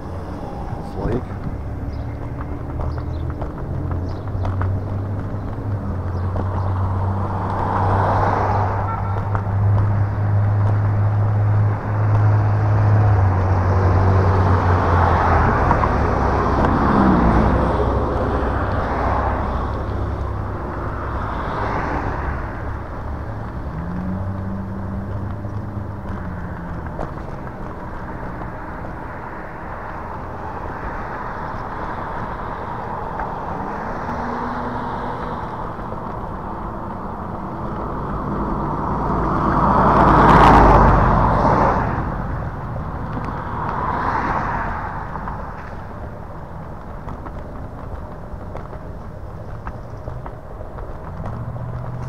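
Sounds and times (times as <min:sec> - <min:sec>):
cars passing by: 0:00.0 - 0:52.0
scooter wind and wheel rumble: 0:00.0 - 0:52.0.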